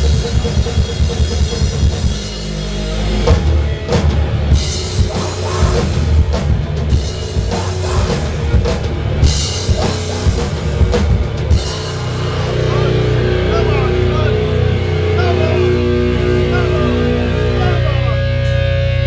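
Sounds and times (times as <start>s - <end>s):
drum kit with cymbal crashes: 0.0s - 17.6s
distorted electric guitars: 0.0s - 19.0s.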